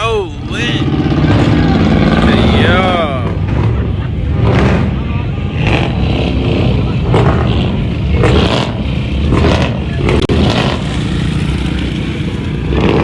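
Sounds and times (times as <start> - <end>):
vehicle engine revving hard: 0.7 - 13.0.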